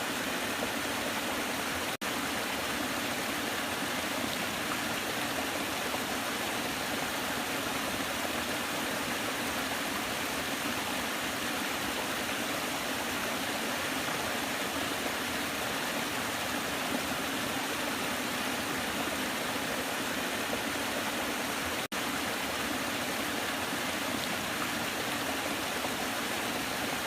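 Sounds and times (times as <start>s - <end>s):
waterfall rushing and splashing: 0.0s - 27.0s.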